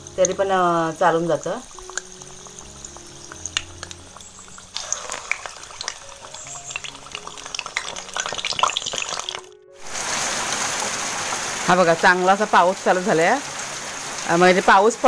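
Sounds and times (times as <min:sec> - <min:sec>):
batter sizzling in hot oil: 0:00.0 - 0:15.0
rain hissing: 0:00.0 - 0:15.0.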